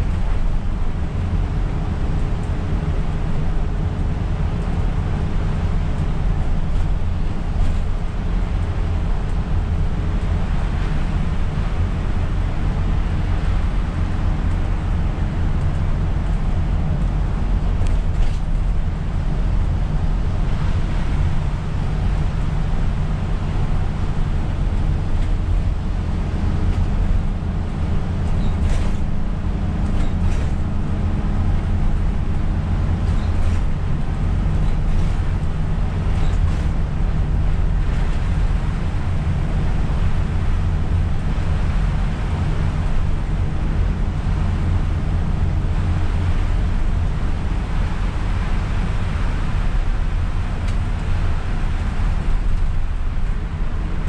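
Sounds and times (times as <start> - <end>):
bus engine and road drone: 0.0 - 54.0.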